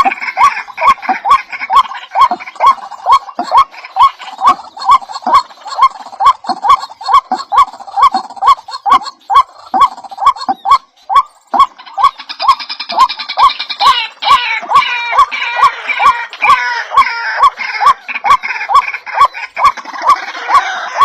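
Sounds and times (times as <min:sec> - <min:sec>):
bird calling: 0:00.0 - 0:21.0.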